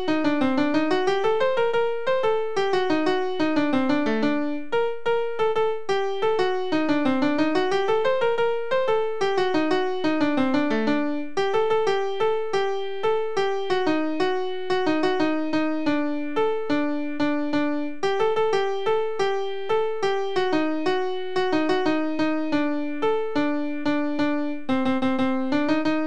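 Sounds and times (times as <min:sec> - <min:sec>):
fast piano melody: 0:00.0 - 0:26.0.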